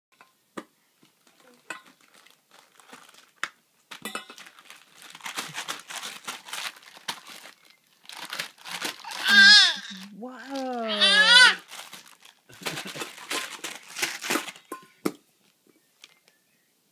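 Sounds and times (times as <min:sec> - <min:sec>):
crinkly toy crinkling: 0:01.0 - 0:14.8, 0:15.4 - 0:16.4.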